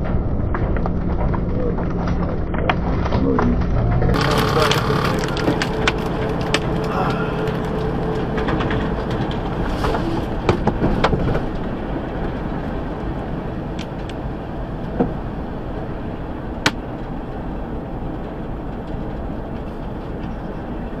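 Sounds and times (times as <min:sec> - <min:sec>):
sharp clicks and rattles: 0:00.0 - 0:20.5
truck engine and tyre noise: 0:00.0 - 0:21.0.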